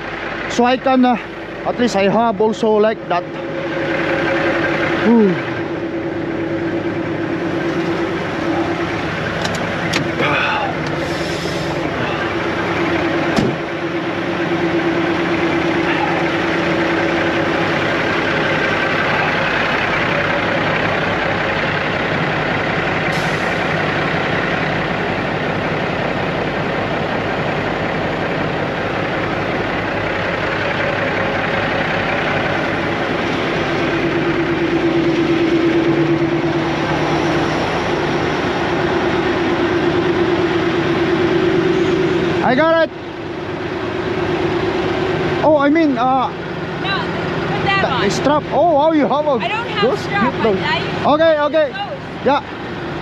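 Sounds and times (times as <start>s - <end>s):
diesel truck engines idling: 0.0s - 53.0s.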